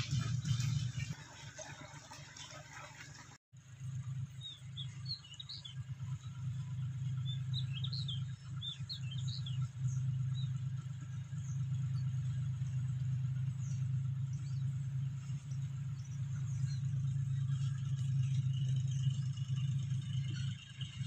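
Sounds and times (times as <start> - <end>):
birds chirping: 0.0 - 21.0
tractor engine droning: 0.0 - 21.0.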